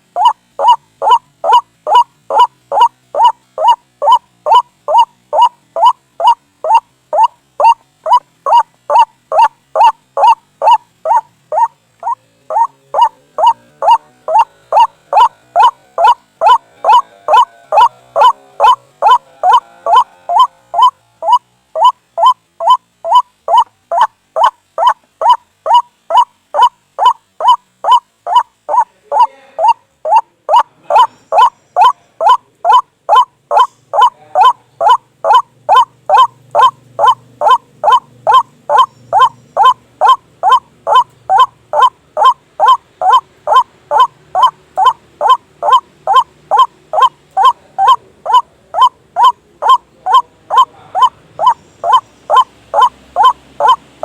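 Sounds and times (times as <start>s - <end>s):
waterhen calling: 0.0s - 54.0s.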